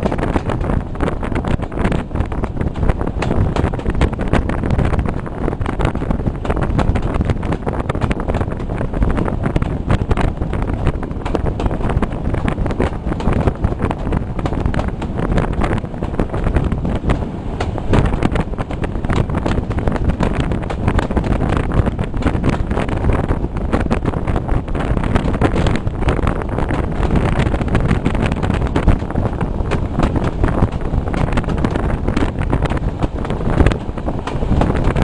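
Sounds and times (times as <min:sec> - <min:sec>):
train running noise: 0:00.0 - 0:35.0
wind buffeting microphone: 0:00.0 - 0:35.0.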